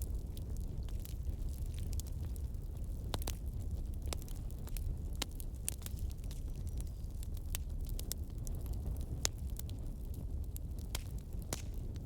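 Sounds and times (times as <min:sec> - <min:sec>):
bonfire flames rumbling: 0:00.0 - 0:12.0
burning wood crackling and popping: 0:00.0 - 0:12.0.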